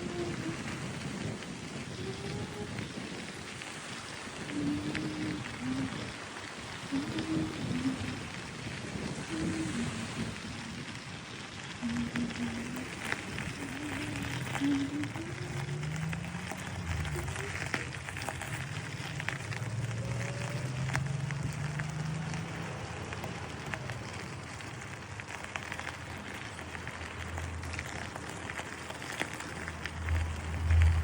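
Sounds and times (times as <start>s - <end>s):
bicycle tyres on pavement: 0.0s - 31.0s
wind rumble on microphone: 0.0s - 31.0s.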